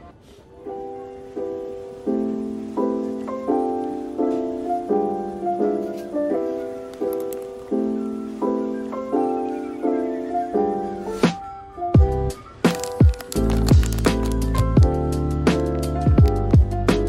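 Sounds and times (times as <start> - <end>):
soft piano chords: 0.5 - 17.0.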